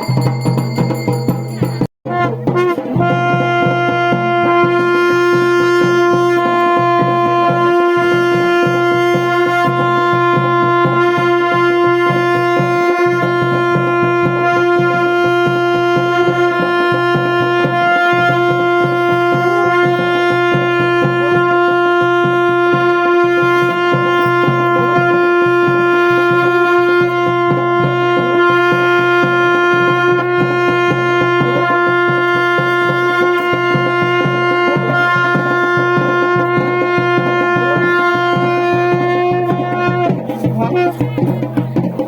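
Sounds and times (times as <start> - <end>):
fast drumming: 0.0 - 42.0
wind instrument drone: 1.6 - 42.0.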